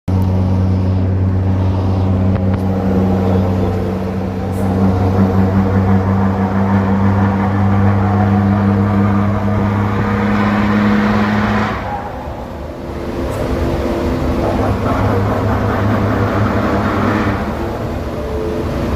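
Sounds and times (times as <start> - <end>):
rushing noise: 0.1 - 18.9
vehicle engine humming: 0.1 - 18.9.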